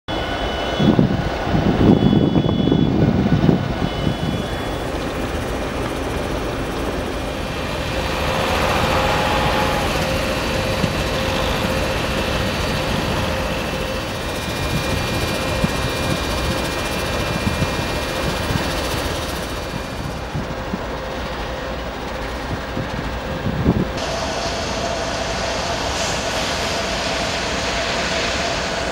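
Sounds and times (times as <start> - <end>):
diesel locomotive engine humming: 0.1 - 28.9
thin whine: 0.1 - 28.9
train cars rumbling and clattering: 0.1 - 28.9.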